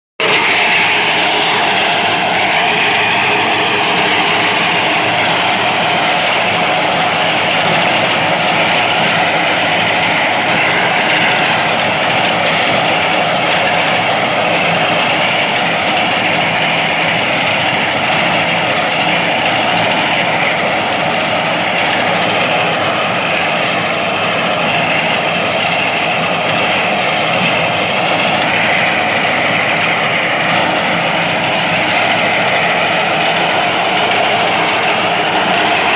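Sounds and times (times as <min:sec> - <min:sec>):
tractor and reaper running: 0:00.0 - 0:35.9.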